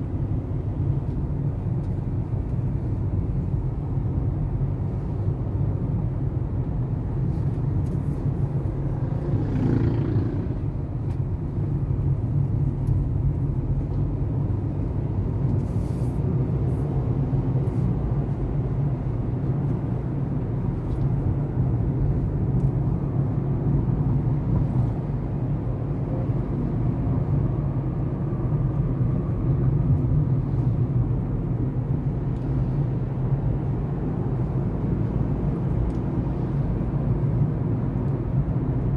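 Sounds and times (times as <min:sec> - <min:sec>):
vehicle engine and road rumble: 0:00.0 - 0:38.9.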